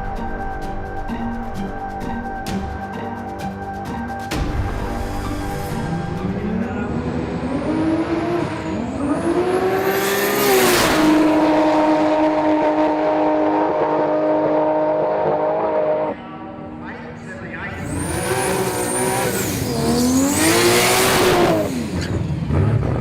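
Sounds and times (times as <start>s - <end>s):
car engine accelerating: 4.3s - 23.0s.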